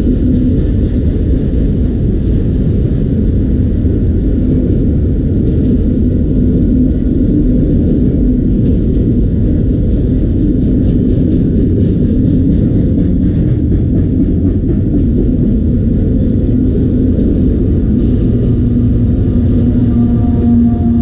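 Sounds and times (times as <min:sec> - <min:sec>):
freight train cars rumbling: 0:00.0 - 0:21.0
wheels clicking on rails: 0:00.0 - 0:21.0.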